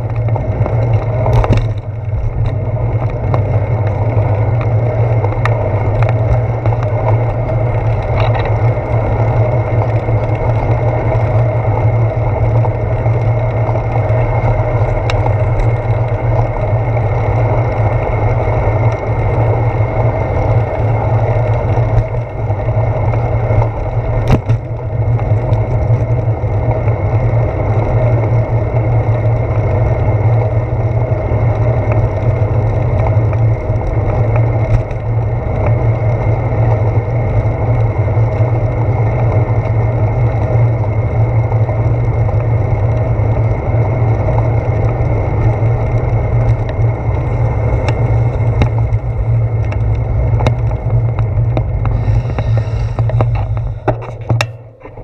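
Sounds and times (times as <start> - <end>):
bicycle tyres rolling on wet pavement: 0.0 - 55.0.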